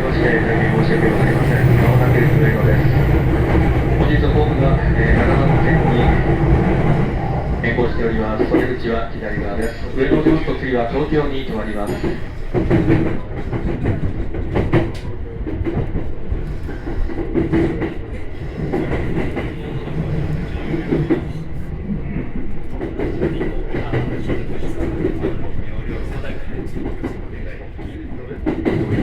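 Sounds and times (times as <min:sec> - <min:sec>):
train rolling on rails: 0:00.0 - 0:29.0.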